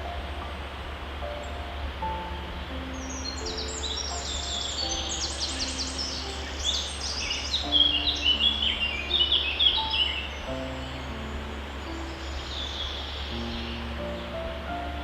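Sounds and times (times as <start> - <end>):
small birds chirping: 0.0 - 15.0
soft background music: 0.0 - 15.0.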